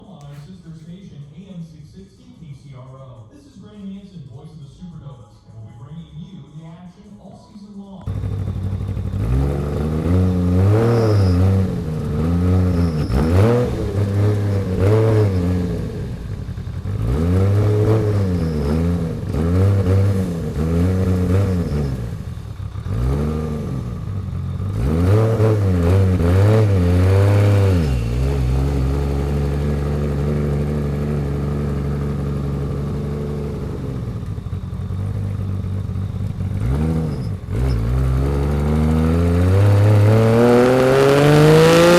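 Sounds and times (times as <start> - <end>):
car engine revving and idling: 8.0 - 41.9.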